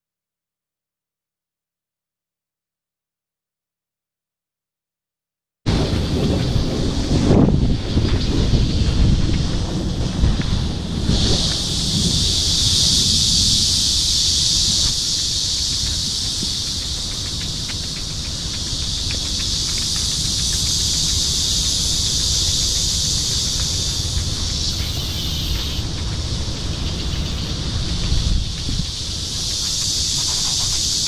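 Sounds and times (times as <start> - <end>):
cicadas droning: 5.7 - 31.0
wind buffeting microphone: 5.7 - 31.0.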